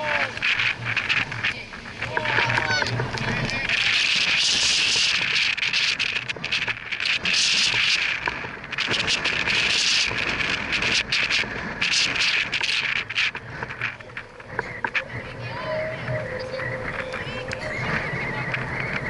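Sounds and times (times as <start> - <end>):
rustling on microphone: 0.0 - 19.0.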